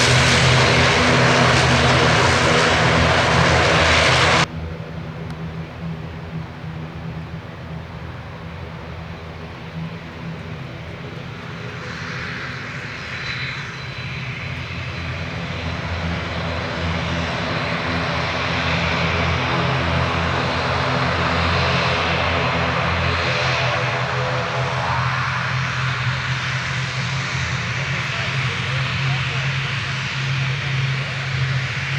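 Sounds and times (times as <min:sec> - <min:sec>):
turboprop engines droning: 0:00.0 - 0:31.9.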